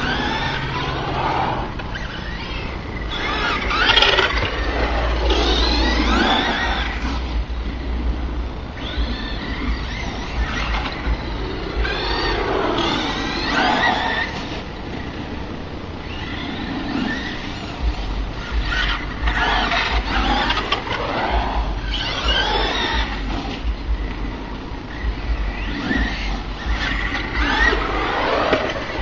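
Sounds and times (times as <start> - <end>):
toy truck electric motor whine: 0.0 - 7.4, 8.8 - 15.2, 16.0 - 23.6, 24.9 - 29.0
gears whining: 0.0 - 29.0.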